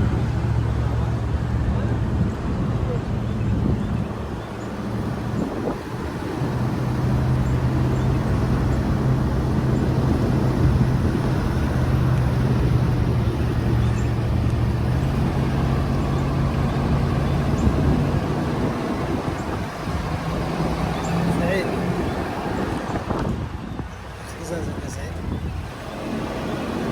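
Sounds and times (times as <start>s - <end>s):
road and wind noise: 0.0s - 26.9s
vehicle engine running: 0.0s - 26.9s.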